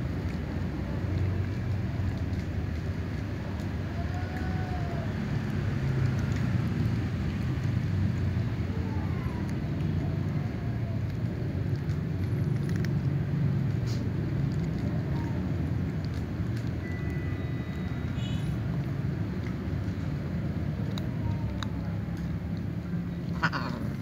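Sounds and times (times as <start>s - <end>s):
cats crunching dry kibble: 0.0s - 24.0s.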